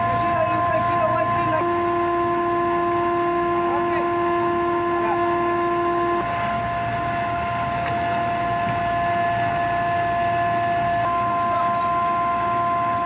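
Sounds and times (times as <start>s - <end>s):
noisy machinery rumble: 0.0s - 13.0s
whining machinery tones: 0.0s - 13.0s.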